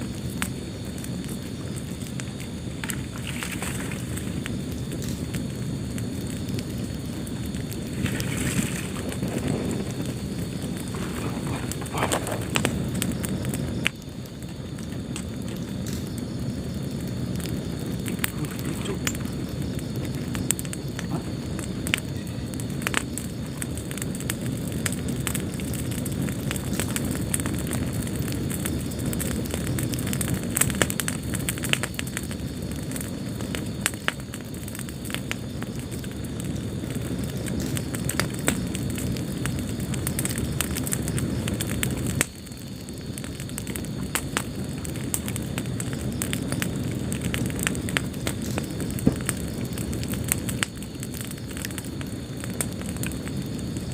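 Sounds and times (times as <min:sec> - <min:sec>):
fire crackling and popping: 0:00.0 - 0:53.9
wood fire burning: 0:00.0 - 0:53.9.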